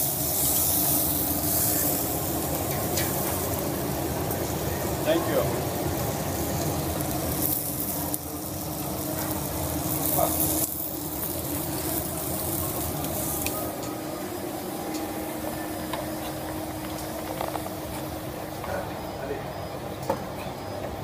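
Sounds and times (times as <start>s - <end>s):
steaks sizzling on grill: 0.0s - 18.9s.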